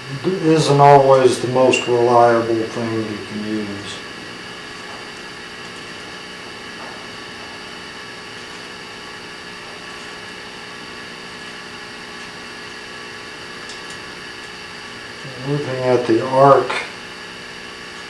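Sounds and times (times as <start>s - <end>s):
hum and hiss with tones: 0.0s - 18.0s.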